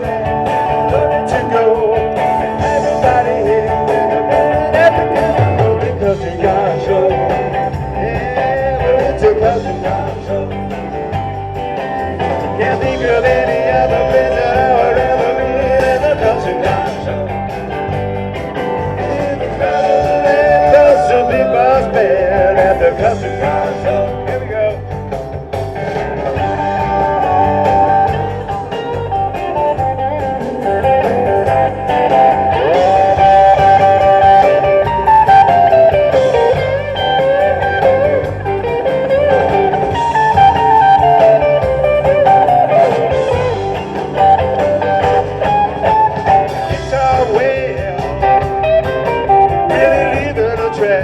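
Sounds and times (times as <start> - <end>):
bass guitar: 0.0 - 51.0
drum beat: 0.0 - 51.0
lead guitar solo: 0.0 - 51.0.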